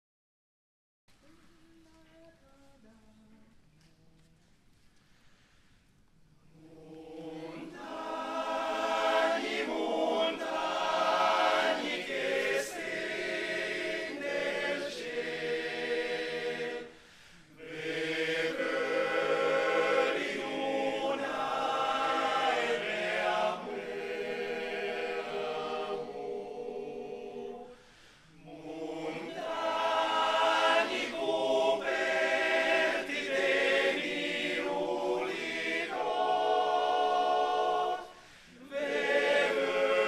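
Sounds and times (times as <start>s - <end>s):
men's choir singing a cappella: 6.5s - 40.0s.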